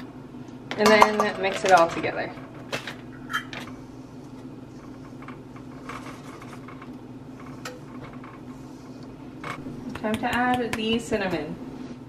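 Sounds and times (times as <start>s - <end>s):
low hum: 2.0s - 12.0s.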